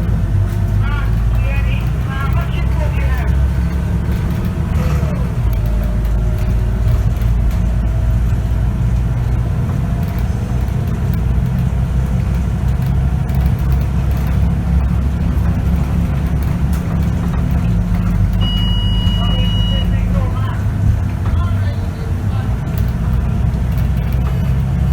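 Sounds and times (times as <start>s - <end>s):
bus diesel engine drone: 0.0s - 24.9s.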